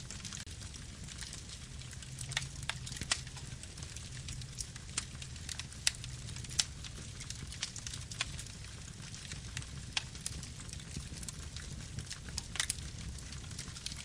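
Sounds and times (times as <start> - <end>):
campfire wood crackling and popping: 0.0 - 14.0.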